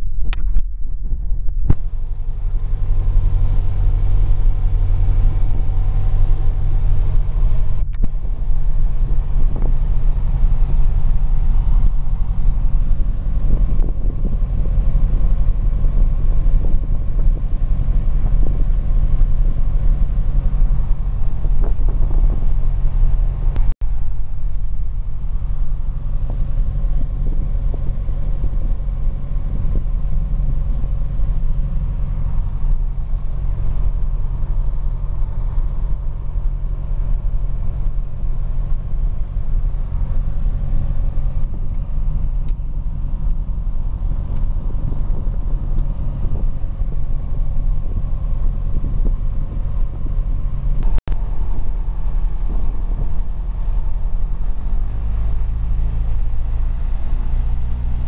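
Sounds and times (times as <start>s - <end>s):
propeller engine drone: 0.0s - 58.0s.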